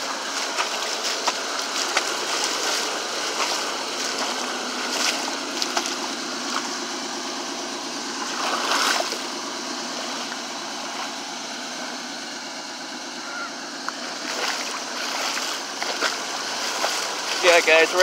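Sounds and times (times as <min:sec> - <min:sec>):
shallow water running and splashing: 0:00.0 - 0:10.5, 0:14.0 - 0:18.0.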